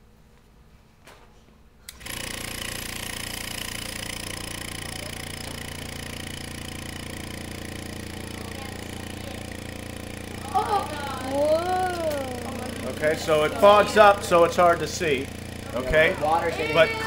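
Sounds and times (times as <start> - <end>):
vacuum pump humming and hissing: 1.8 - 17.0.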